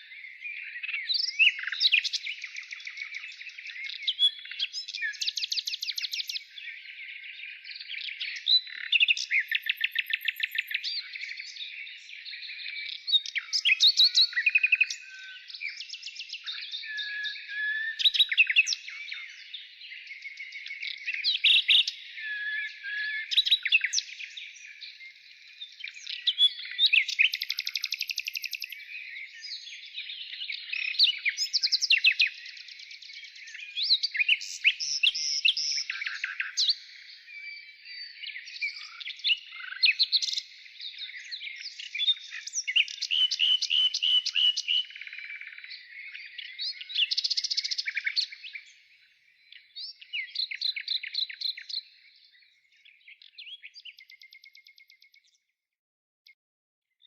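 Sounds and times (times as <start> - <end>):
birds singing: 0.0 - 55.6.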